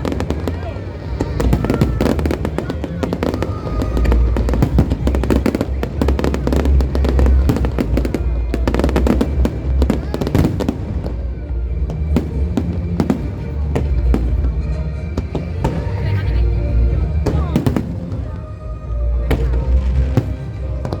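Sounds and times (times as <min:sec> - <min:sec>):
fireworks cracking: 0:00.0 - 0:16.3, 0:16.9 - 0:18.6, 0:19.2 - 0:21.0
show music: 0:00.0 - 0:21.0.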